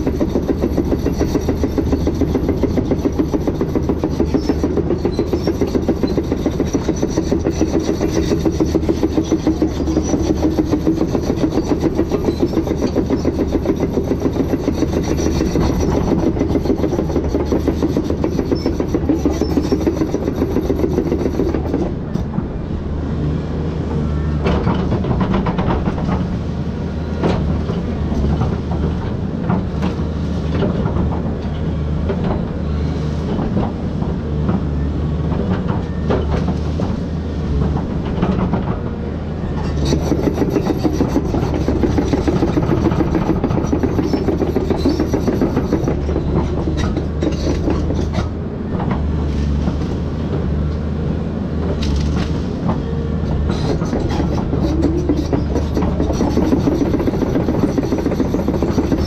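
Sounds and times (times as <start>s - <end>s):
machine knocks and clanks: 0.0s - 22.5s, 24.4s - 26.6s, 27.2s - 32.6s, 33.3s - 50.9s, 51.6s - 59.0s
excavator diesel engine running: 0.0s - 59.0s.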